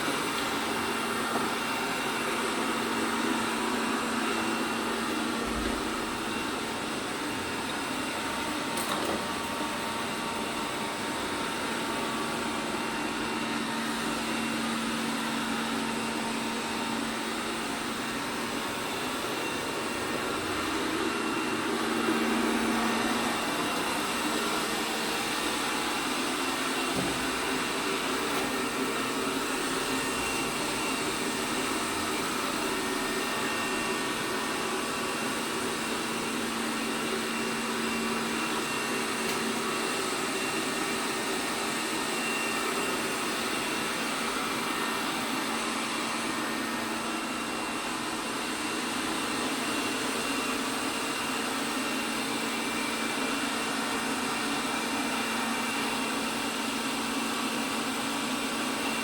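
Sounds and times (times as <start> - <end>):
robot vacuum cleaner whirring: 0.0 - 59.0.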